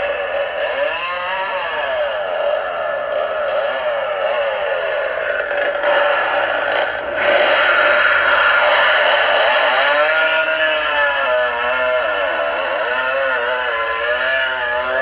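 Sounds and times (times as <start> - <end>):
toy chainsaw engine sound revving: 0.0 - 15.0.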